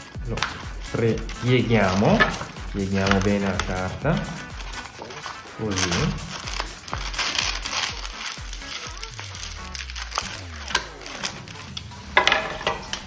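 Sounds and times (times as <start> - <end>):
background music with bass: 0.0 - 13.0
sandpaper crinkling rustle: 0.4 - 11.9.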